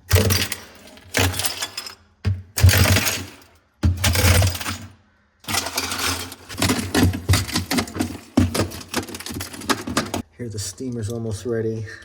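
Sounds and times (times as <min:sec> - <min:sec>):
ice clinking and rattling in bucket: 0:00.0 - 0:10.2.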